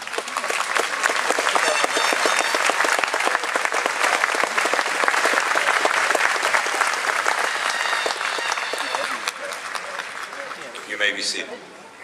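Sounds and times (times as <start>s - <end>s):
large crowd applauding: 0.0s - 11.5s.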